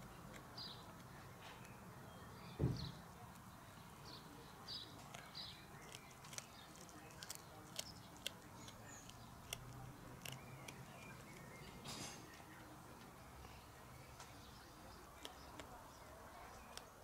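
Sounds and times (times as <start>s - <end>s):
cat crunching bird bones: 0.0s - 2.0s, 3.1s - 17.0s.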